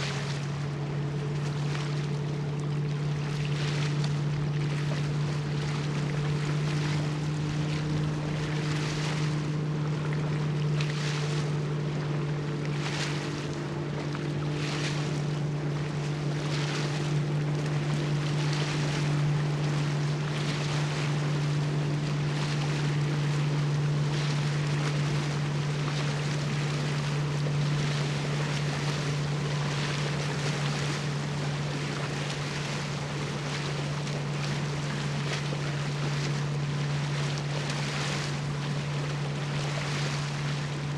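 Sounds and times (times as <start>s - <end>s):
higher engine tones: 0.0s - 40.9s
ship engines droning: 0.0s - 40.9s
waves washing: 0.0s - 40.9s.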